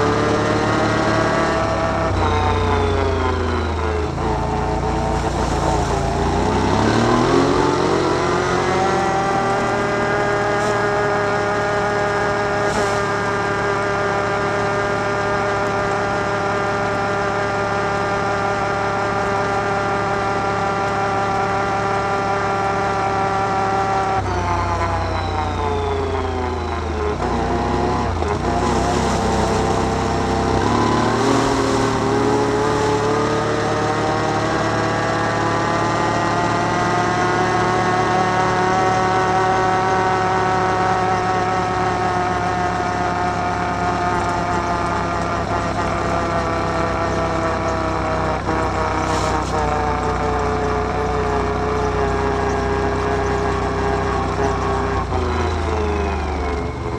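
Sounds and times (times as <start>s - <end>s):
atv engine accelerating: 0.0s - 56.9s.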